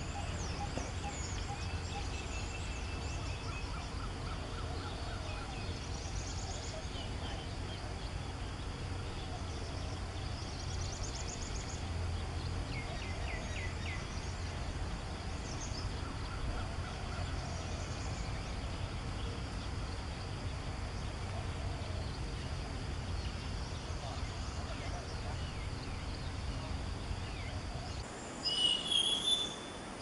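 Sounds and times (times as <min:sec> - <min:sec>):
small wild birds calling: 0:00.0 - 0:30.0
steady hiss and low hum: 0:00.0 - 0:30.0.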